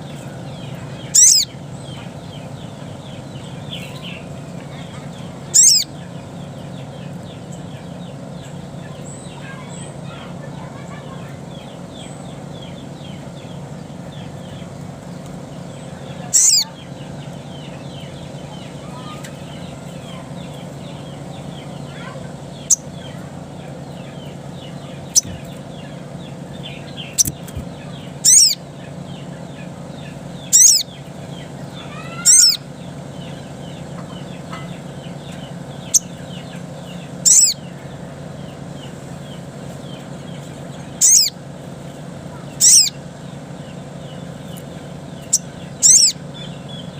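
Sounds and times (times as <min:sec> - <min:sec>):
faint continuous chirping: 0:00.0 - 0:46.9
high-pitched bird calls: 0:00.0 - 0:46.9
low steady hum: 0:00.0 - 0:46.9.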